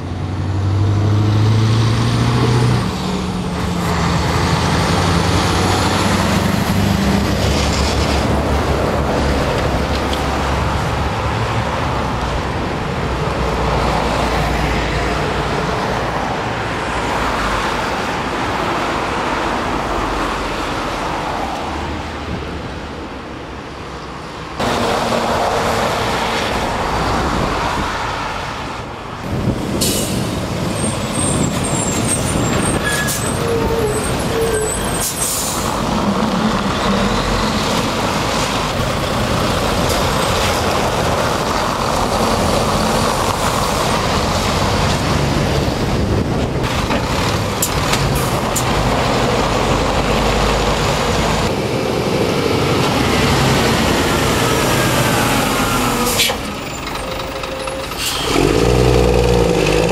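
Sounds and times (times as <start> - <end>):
lorries and traffic passing: 0.0 - 59.9.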